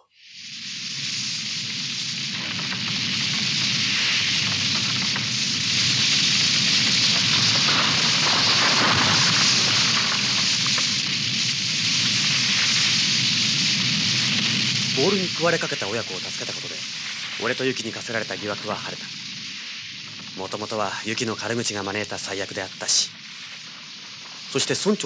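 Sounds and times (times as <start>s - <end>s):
fire burning: 0.0s - 25.0s.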